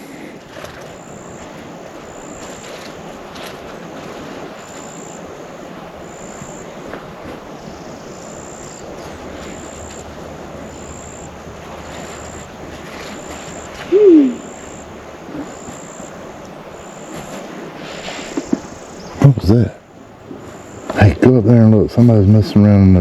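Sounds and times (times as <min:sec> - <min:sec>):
rushing outdoor background noise: 0:00.0 - 0:23.0
high-pitched insect call: 0:00.6 - 0:21.3.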